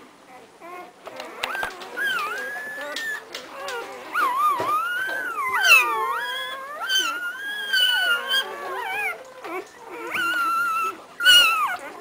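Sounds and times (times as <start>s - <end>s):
puppies crying: 0.3s - 12.0s.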